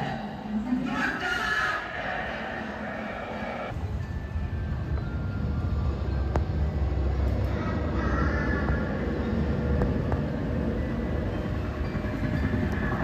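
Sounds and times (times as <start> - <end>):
high running whine: 1.8 - 13.0.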